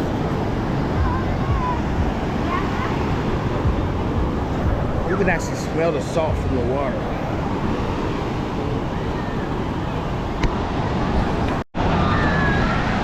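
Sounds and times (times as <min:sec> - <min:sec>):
ocean surf rushing: 0:00.0 - 0:13.0
wind noise on microphone: 0:00.0 - 0:13.0.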